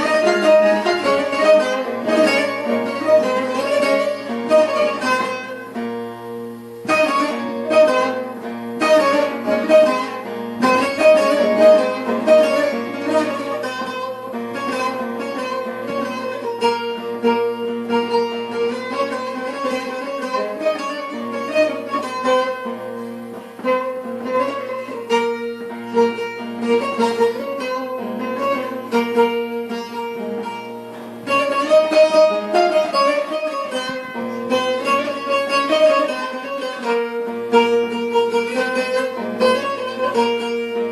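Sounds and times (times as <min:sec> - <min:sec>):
plucked string instrument melody: 0:00.0 - 0:40.9.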